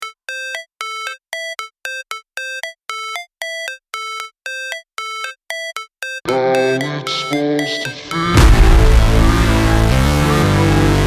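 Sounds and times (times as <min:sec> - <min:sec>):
synthesizer melody of clipped notes: 0:00.0 - 0:11.0.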